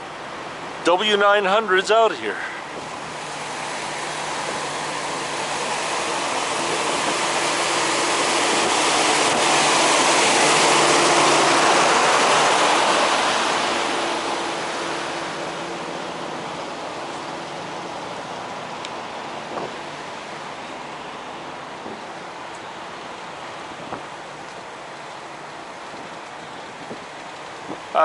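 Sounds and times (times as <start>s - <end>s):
idling trucks hiss and hum: 0.0s - 28.0s.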